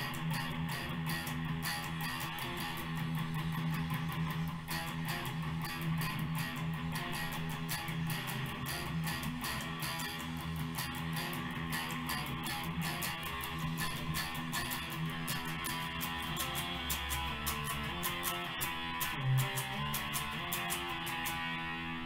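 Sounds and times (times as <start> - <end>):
electric guitar picked quickly: 0.0 - 22.0.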